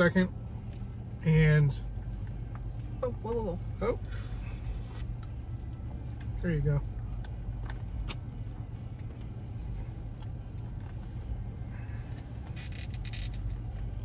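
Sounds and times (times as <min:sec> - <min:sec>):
car idling hum: 0:00.0 - 0:14.0.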